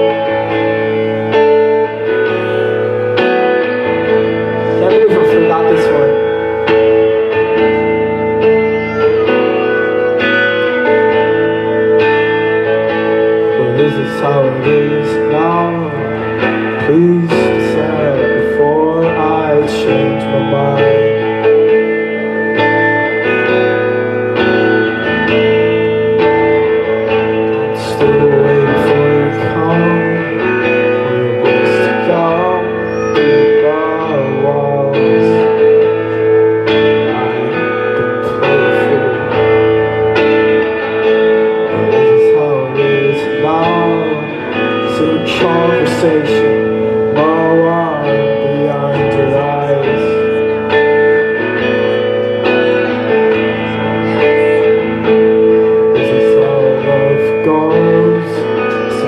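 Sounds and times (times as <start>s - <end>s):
man singing: 0.0s - 23.9s, 24.7s - 59.0s
guitar playing: 0.0s - 59.0s.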